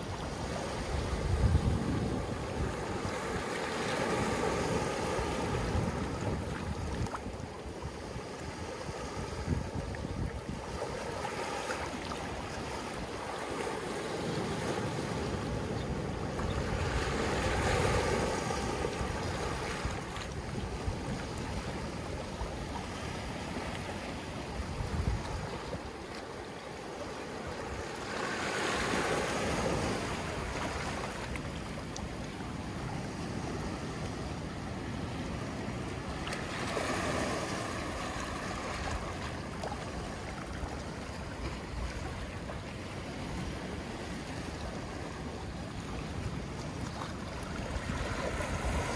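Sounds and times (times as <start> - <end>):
small waves lapping on shore: 0.0 - 48.9.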